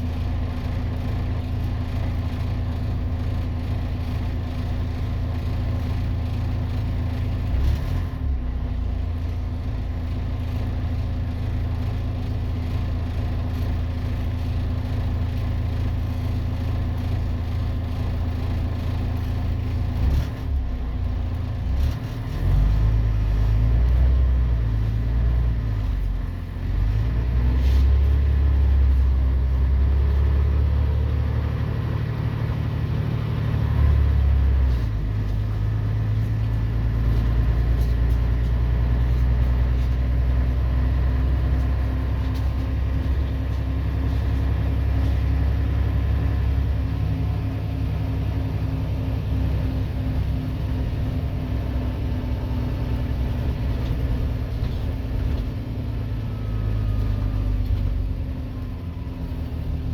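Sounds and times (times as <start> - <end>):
bus diesel engine under load: 0.0 - 59.9.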